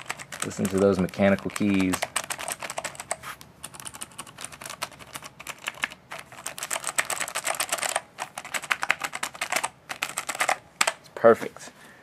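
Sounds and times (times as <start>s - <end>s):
mechanical keyboard clicks: 0.0s - 11.0s.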